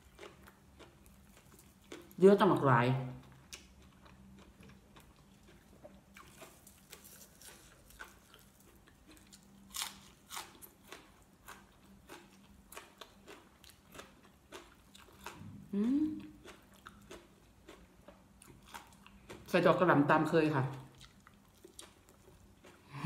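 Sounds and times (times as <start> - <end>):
crunchy chewing of leafy greens: 0.0 - 23.0.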